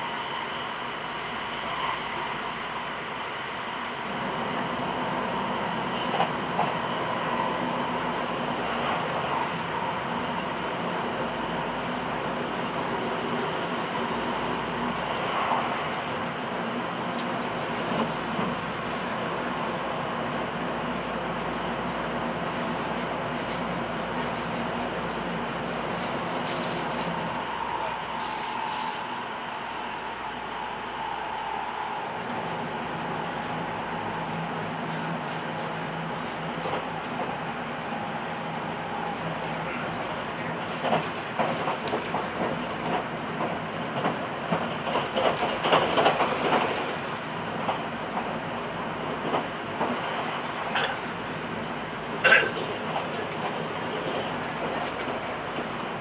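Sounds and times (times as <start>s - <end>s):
train rumble inside carriage: 0.0s - 56.0s.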